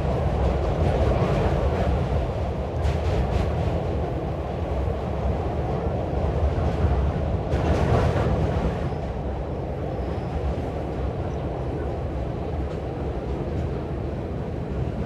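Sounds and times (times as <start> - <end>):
train wheels rumbling on bridge: 0.0 - 15.0.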